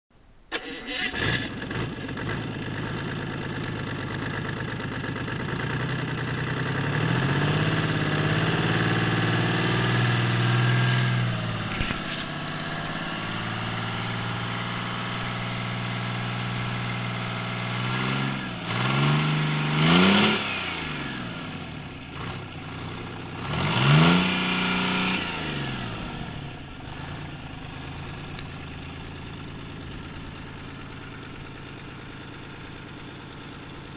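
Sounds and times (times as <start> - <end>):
diesel engine idling and revving: 0.5 - 33.9.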